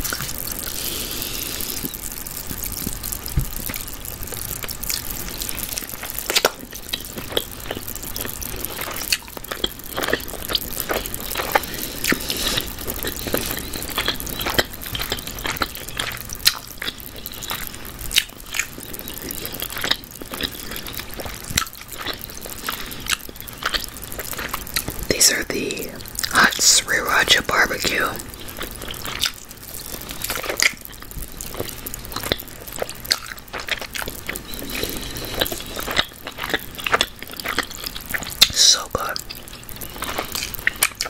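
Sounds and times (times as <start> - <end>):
person biting and chewing meat: 0.0 - 25.1, 28.2 - 38.6, 39.2 - 41.0.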